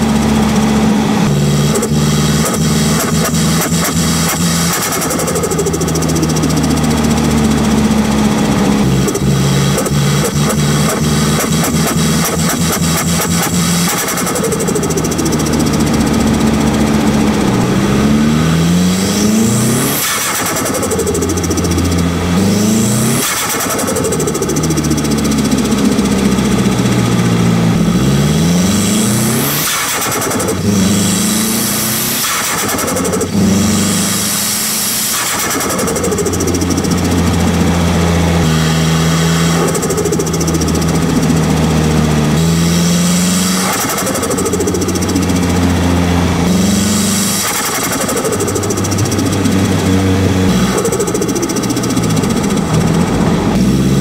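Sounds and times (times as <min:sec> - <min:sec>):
turbocharged car engine revving: 0:00.0 - 0:54.0
turbo fluttering and hissing: 0:01.3 - 0:27.4, 0:28.1 - 0:53.6.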